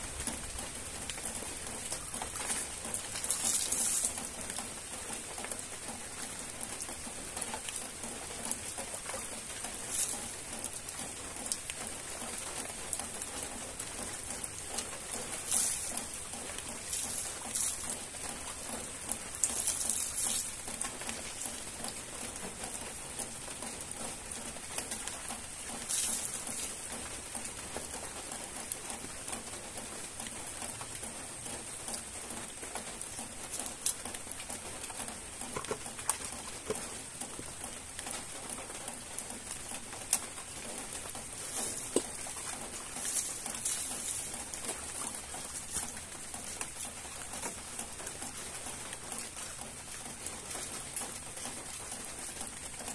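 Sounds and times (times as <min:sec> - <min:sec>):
light rain pattering: 0:00.0 - 0:52.9
water splashing over vegetables: 0:00.0 - 0:52.9.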